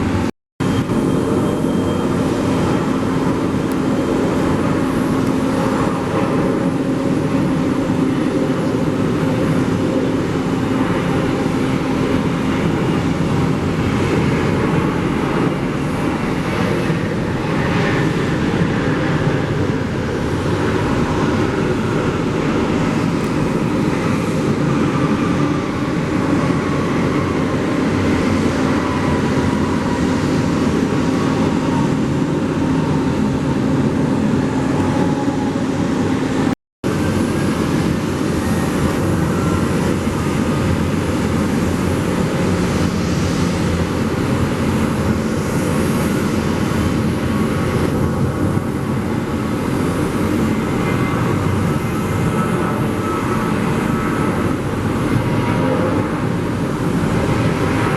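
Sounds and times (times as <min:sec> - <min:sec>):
jet airliner engines running: 0:00.0 - 0:57.9.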